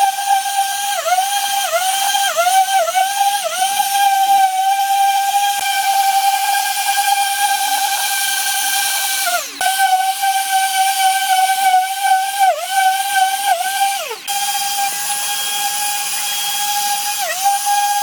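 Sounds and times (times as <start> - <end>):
electric power tool whining: 0.0 - 18.0.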